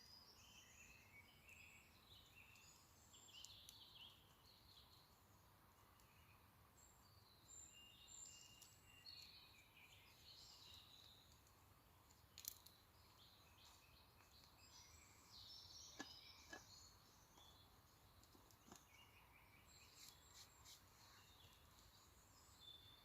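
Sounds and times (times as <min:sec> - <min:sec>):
distant small birds chirping: 0:00.0 - 0:23.0.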